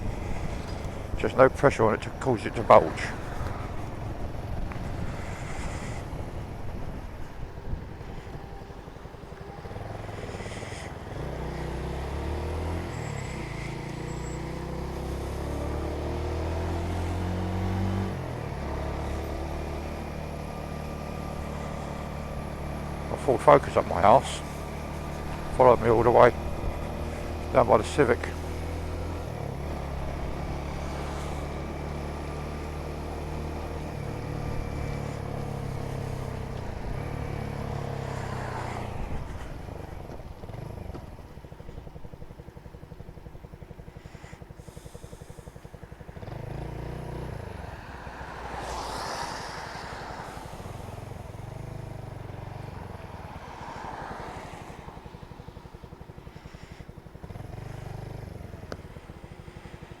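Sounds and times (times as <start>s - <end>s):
loud vehicle engine: 0.0s - 60.0s
vehicles passing by: 0.0s - 60.0s.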